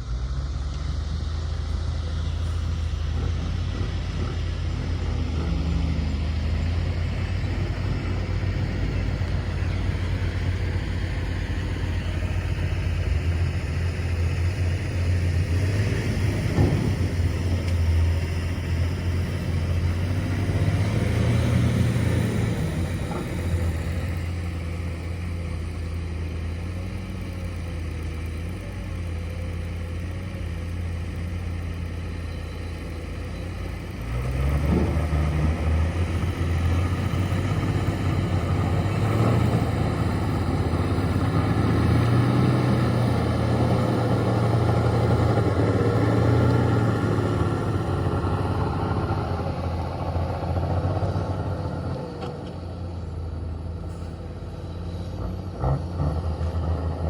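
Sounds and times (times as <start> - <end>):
heavy diesel machinery engine: 0.0 - 57.0.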